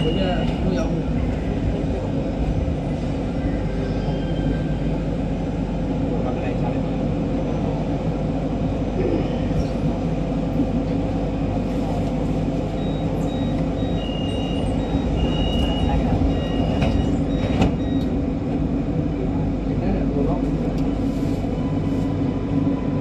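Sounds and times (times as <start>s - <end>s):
metro train rumbling on rails: 0.0s - 23.0s.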